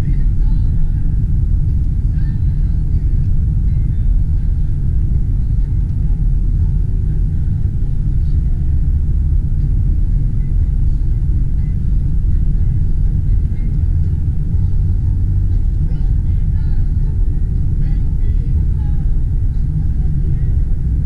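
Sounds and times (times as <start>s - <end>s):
car driving interior rumble: 0.0s - 21.0s.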